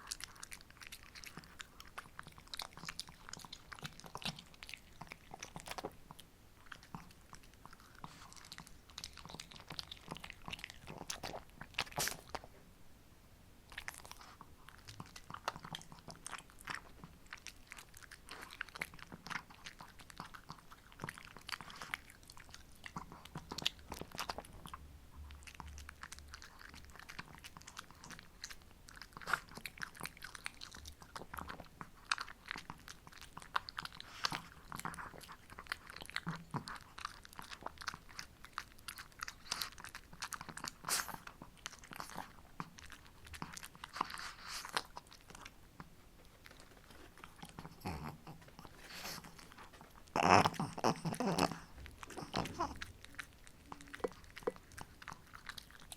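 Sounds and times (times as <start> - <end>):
dog chewing crunchy treat: 0.0 - 12.5, 13.7 - 55.9.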